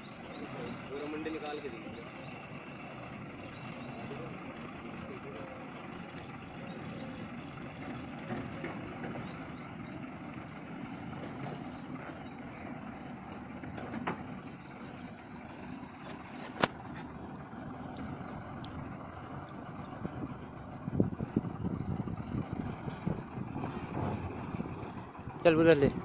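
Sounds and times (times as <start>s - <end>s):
truck diesel engine rumbling: 0.0s - 26.0s.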